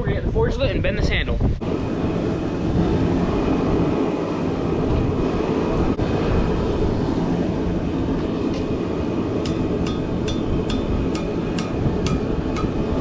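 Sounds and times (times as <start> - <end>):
forge burner roaring: 1.6 - 13.0.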